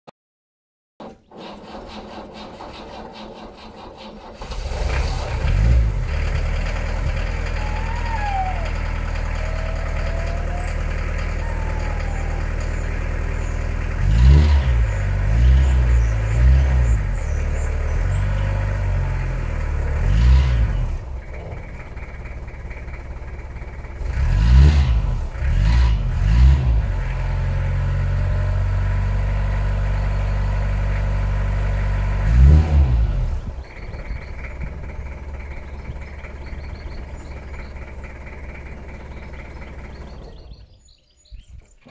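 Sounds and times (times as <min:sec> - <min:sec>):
van engine starting and idling: 0:01.0 - 0:41.9
engine revving from throttle blips: 0:04.2 - 0:41.4.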